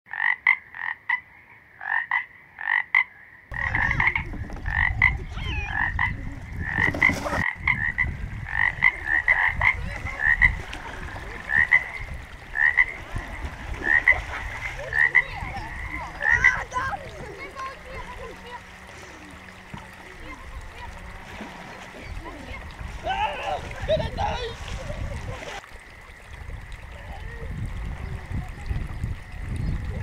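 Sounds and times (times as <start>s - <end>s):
frogs croaking: 0.1s - 24.5s, 25.2s - 30.0s.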